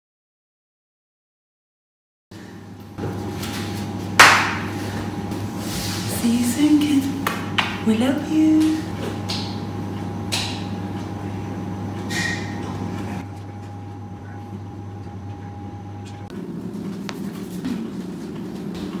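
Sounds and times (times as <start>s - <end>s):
low electrical hum: 2.4s - 19.0s.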